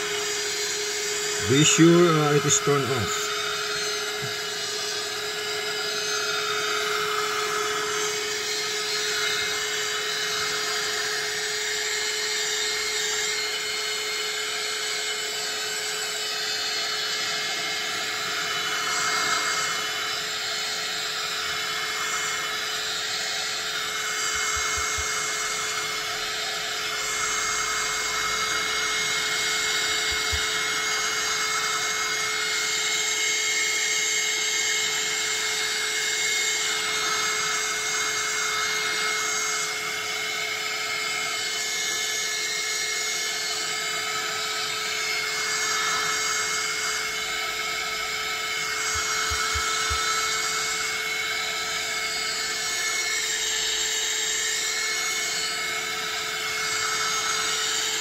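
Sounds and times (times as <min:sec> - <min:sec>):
hot-air gun fan whine: 0:00.0 - 0:58.0.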